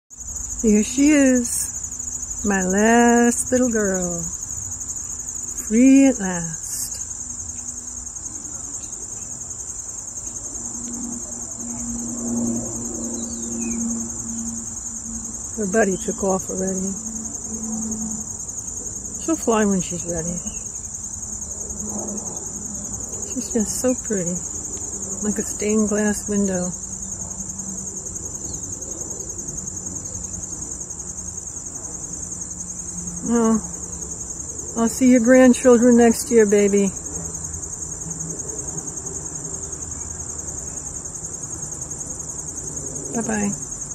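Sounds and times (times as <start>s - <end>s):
crickets trilling: 0.1s - 43.9s.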